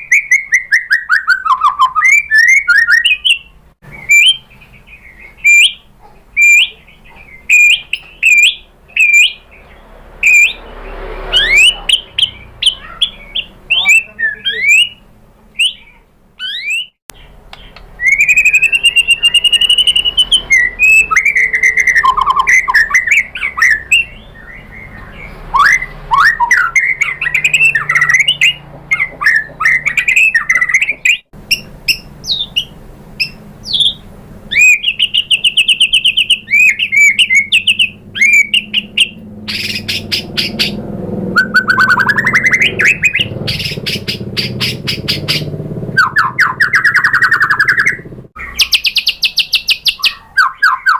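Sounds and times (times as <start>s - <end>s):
bird singing whistles and trills: 0.0s - 10.7s, 11.4s - 15.0s, 15.6s - 50.9s.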